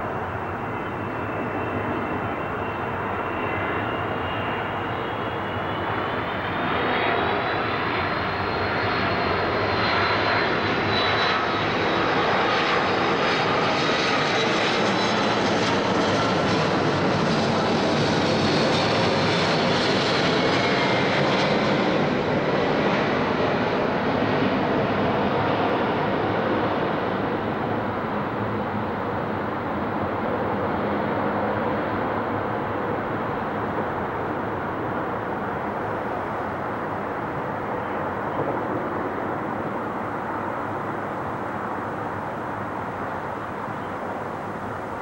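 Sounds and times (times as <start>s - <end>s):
jet engine noise: 0.0s - 45.0s.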